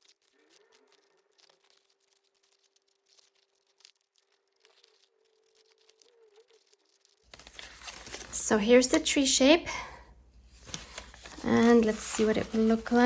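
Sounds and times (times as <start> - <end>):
scissors cutting paper: 0.0 - 9.0, 10.7 - 13.0.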